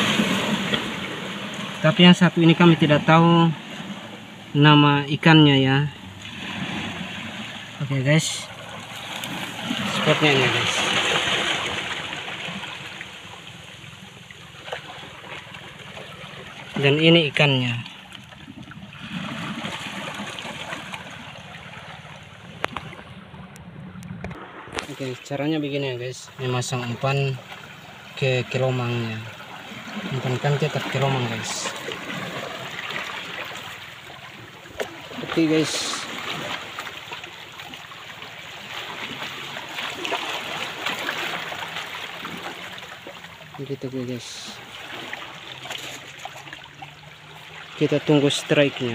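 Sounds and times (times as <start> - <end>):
sea water washing over rocks: 0.0 - 4.7, 6.2 - 48.9.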